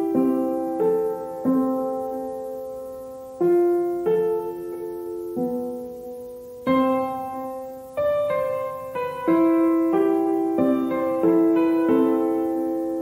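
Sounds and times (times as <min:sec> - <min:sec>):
slow solo piano: 0:00.0 - 0:13.0.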